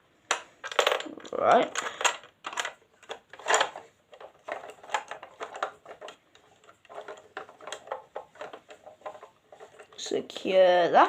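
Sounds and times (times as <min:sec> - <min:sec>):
plastic toy parts clicking and rattling: 0:00.3 - 0:10.8.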